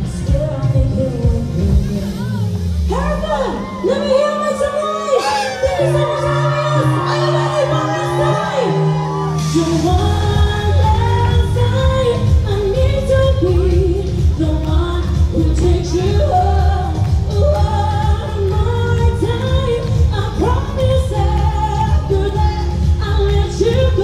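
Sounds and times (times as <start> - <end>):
heavy bass beat: 0.0 - 4.8, 5.5 - 24.0
pop song with singing: 0.0 - 24.0.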